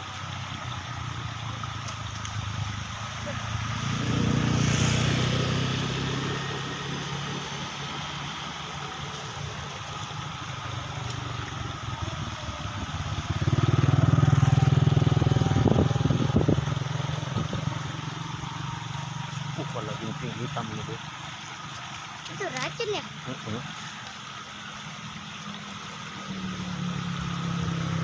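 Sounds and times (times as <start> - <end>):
small engine running: 2.5 - 28.0.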